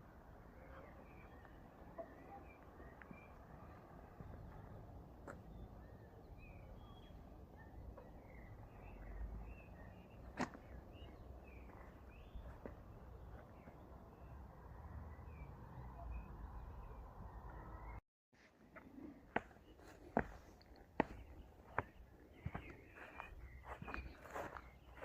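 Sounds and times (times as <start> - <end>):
small birds chirping: 0.4 - 18.0, 18.8 - 25.0.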